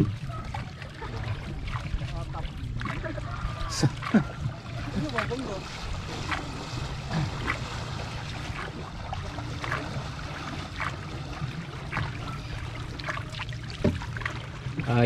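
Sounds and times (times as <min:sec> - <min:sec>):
short splashes or knocks: 0:00.0 - 0:15.0
steady low hum: 0:00.0 - 0:15.0
water trickling and splashing: 0:00.0 - 0:15.0.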